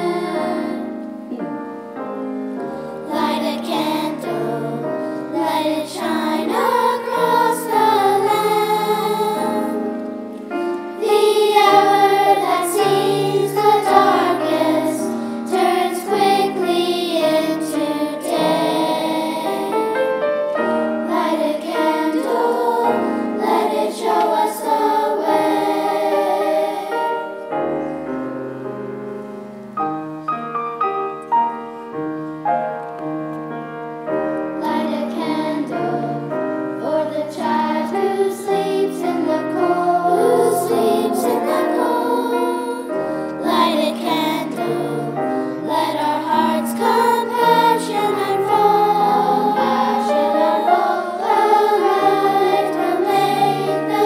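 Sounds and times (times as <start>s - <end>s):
children's choir singing: 0.0s - 28.7s, 34.1s - 54.0s.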